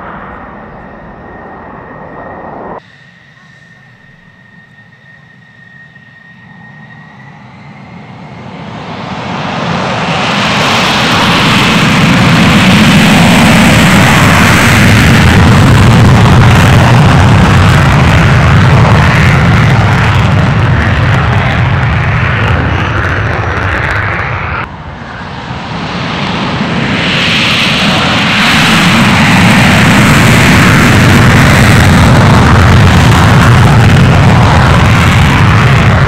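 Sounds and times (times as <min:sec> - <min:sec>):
jet engine roaring: 0:00.0 - 0:36.0.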